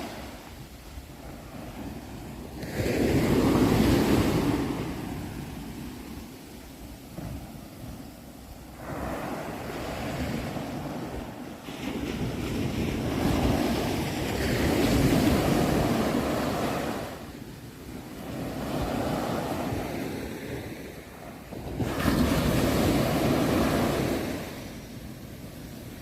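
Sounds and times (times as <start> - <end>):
ocean waves washing ashore: 0.0 - 26.0.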